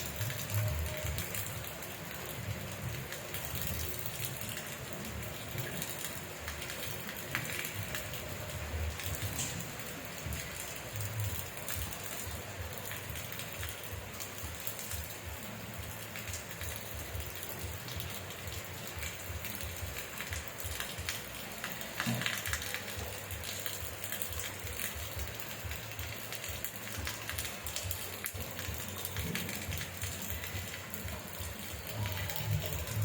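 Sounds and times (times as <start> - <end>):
rain drops pattering: 0.0 - 33.0.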